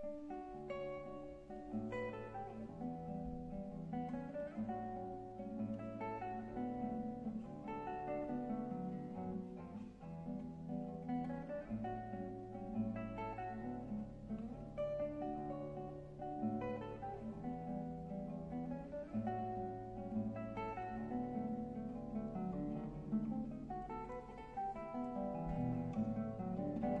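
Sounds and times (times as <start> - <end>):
fingerstyle classical guitar: 0.0 - 27.0.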